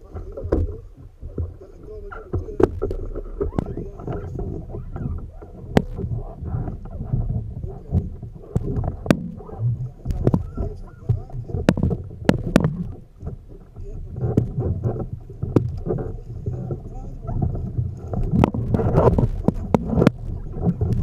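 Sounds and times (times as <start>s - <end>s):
low rumble: 0.0s - 21.0s
water sloshing around a kayak: 0.0s - 21.0s
knocks against a boat: 0.1s - 21.0s.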